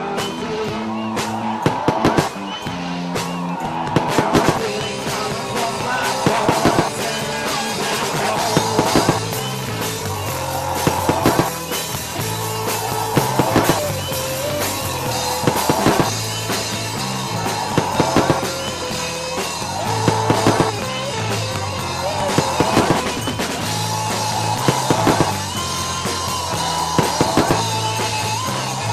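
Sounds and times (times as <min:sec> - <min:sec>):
rock music with drums and bass: 0:00.0 - 0:28.9.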